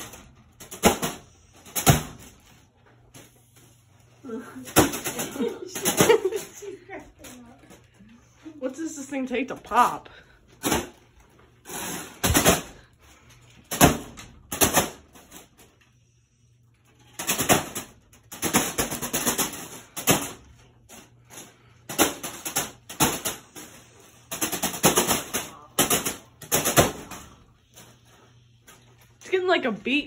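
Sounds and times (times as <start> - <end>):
fan blades slapping foil balloon: 0.0 - 8.7, 9.3 - 29.6.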